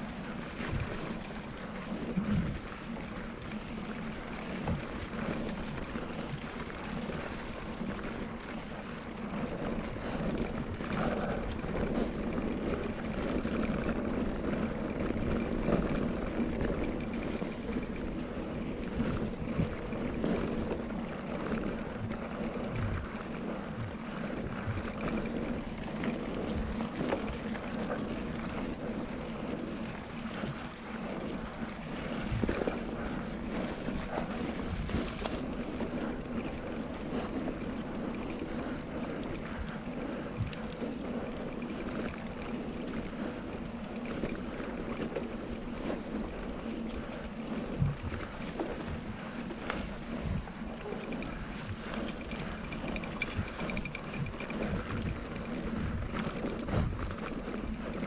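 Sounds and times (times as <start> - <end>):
bike tyres rolling over gravel: 0.0 - 58.0.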